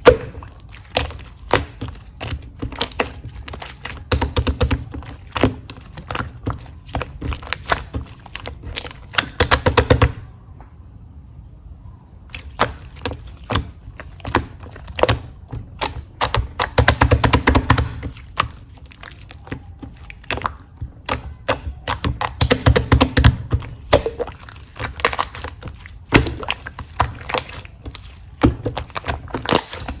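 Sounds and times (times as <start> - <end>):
slime crackling and popping: 0.0 - 10.2, 12.3 - 30.0.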